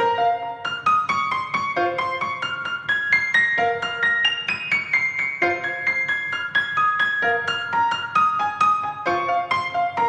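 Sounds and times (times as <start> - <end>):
brisk piano melody: 0.0 - 10.0.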